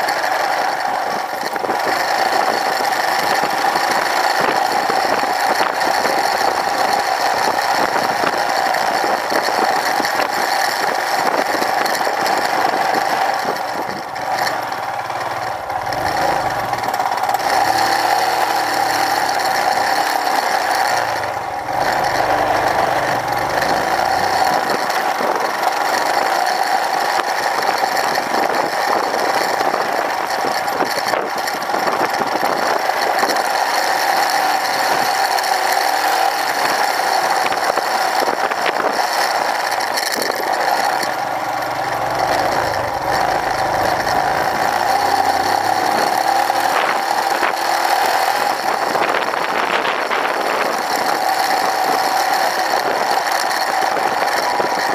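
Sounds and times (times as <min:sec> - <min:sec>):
mechanical rattling: 0:00.0 - 0:54.9
motorcycle engine running: 0:00.0 - 0:54.9.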